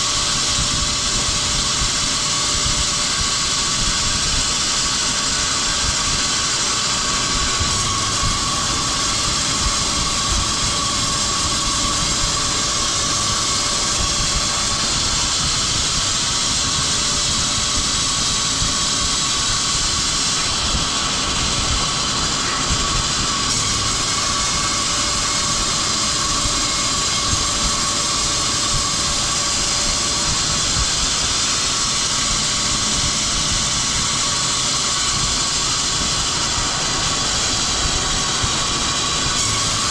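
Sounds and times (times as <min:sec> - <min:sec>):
strong hiss: 0:00.0 - 0:39.9
woodworking machinery whining: 0:00.0 - 0:39.9.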